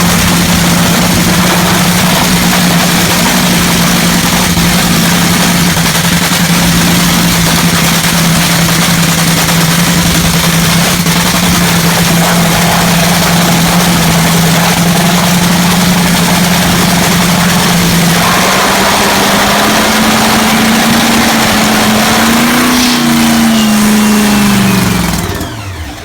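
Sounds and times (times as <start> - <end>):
dragster engine idling loud: 0.0 - 26.0.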